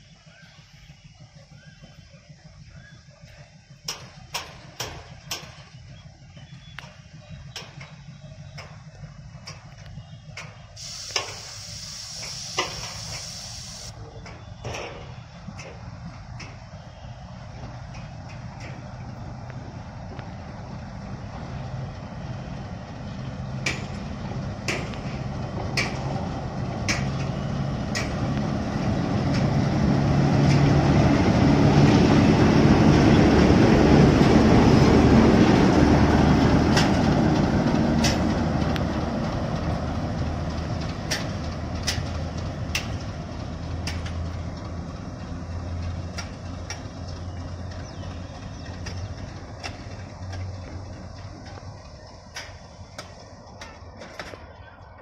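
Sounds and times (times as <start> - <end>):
diesel locomotive engine: 0.0 - 55.0
wheels clacking over rail joints: 3.0 - 55.0.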